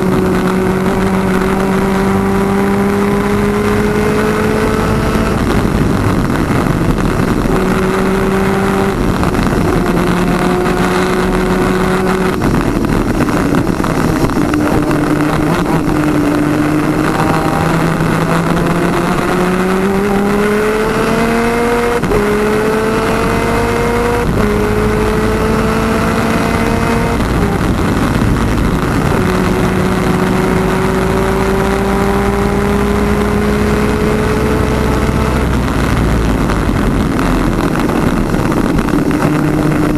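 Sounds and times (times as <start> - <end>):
kart engine accelerating: 0.0 - 39.9
wind and track noise: 0.0 - 39.9.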